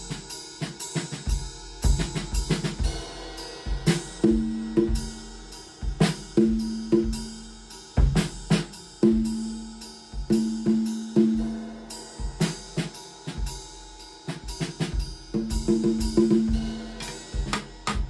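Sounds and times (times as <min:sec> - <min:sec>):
cymbals and hi-hat: 0:00.0 - 0:18.0
drum kit playing: 0:00.0 - 0:18.0.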